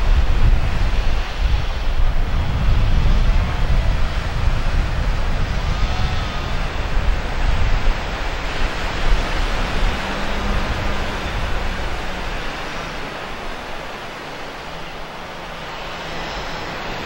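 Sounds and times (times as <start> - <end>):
faint engine hum: 0.0 - 17.0
surf: 0.0 - 17.0
wind gusts buffeting microphone: 0.0 - 17.0
wind roaring: 0.0 - 17.0.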